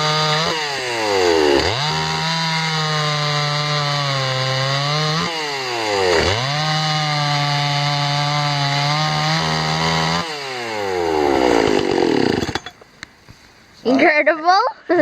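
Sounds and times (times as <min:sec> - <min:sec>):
chainsaw cutting wood: 0:00.0 - 0:12.8.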